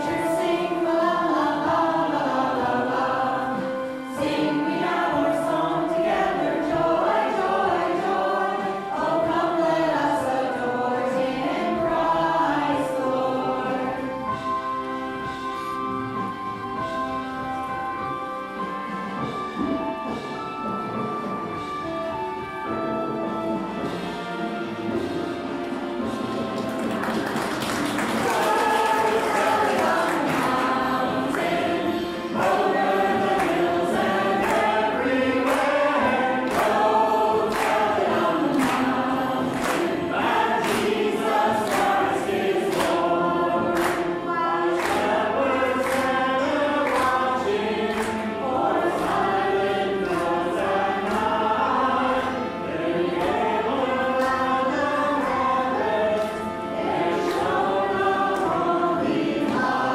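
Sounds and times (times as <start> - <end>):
choir singing a carol: 0.0 - 19.2, 22.4 - 59.9.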